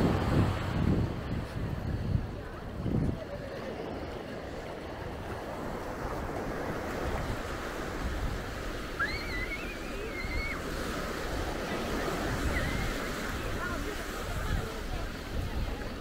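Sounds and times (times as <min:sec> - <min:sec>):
small waves breaking on shore: 0:00.0 - 0:16.0.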